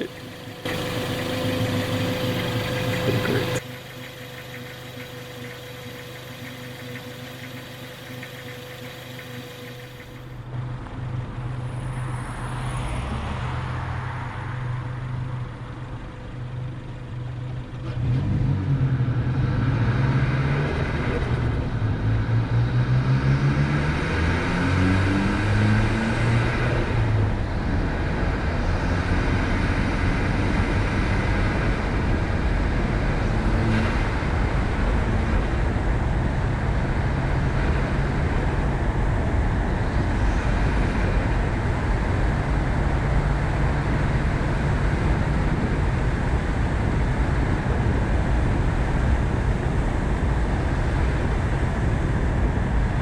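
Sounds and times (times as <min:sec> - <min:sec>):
car engine accelerating: 0:00.0 - 0:53.0
road noise: 0:00.0 - 0:53.0.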